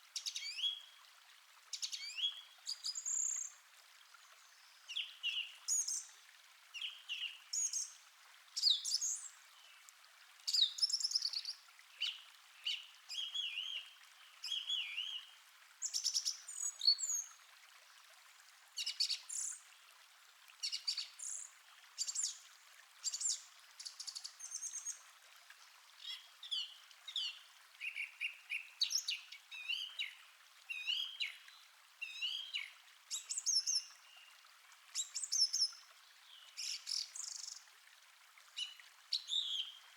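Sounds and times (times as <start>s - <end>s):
flowing stream hiss: 0.0s - 39.9s.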